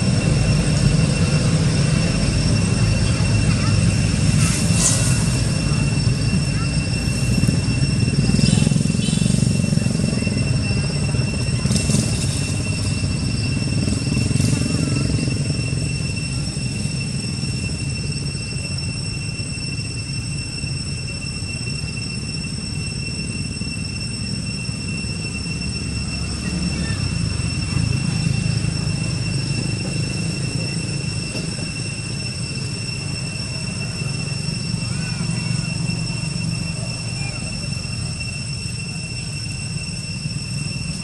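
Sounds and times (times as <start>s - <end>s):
high-pitched whine: 0.0s - 41.0s
low outdoor rumble: 0.0s - 41.0s.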